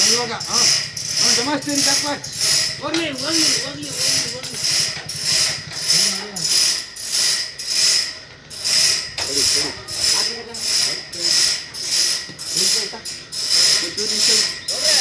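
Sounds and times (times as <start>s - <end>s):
sawmill machinery grinding: 0.0s - 15.0s.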